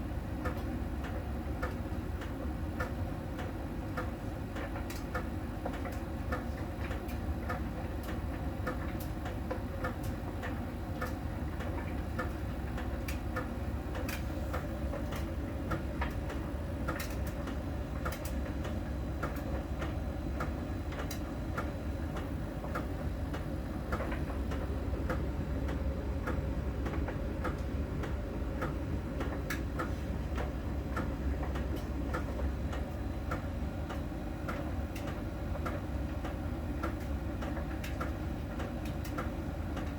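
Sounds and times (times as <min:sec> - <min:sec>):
tumble dryer drum humming: 0:00.0 - 0:39.9.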